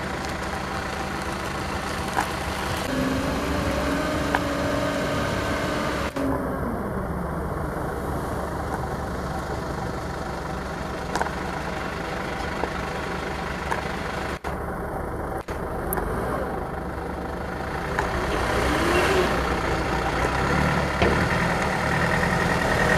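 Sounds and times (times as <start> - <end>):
diesel truck engine running: 0.0 - 22.9.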